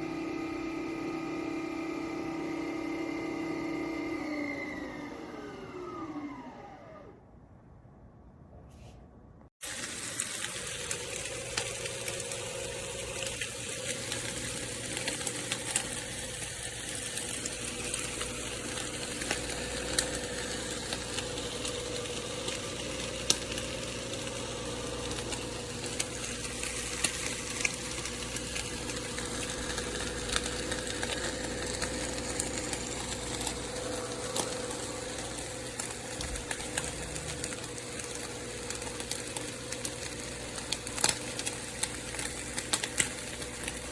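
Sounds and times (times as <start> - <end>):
coffee machine motor and pump hum: 0.0 - 7.2, 9.6 - 43.9.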